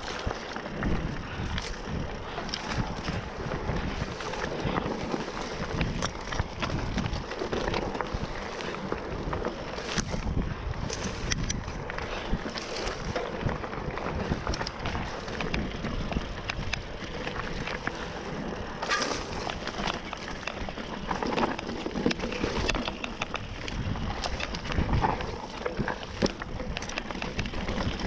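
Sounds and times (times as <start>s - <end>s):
bike rattling and knocking: 0.0s - 28.0s
bike tyres on rocky trail: 0.0s - 28.0s
wind buffeting microphone: 0.0s - 28.0s.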